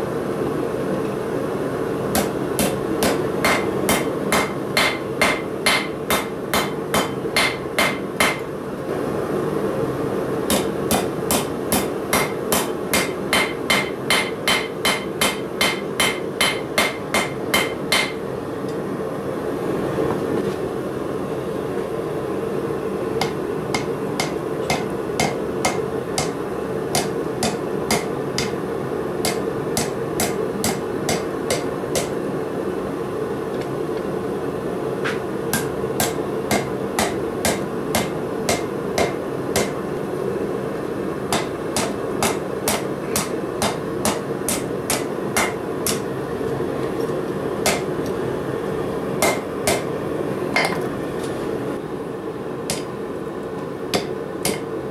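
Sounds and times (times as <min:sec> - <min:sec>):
steady background noise: 0:00.0 - 0:54.9.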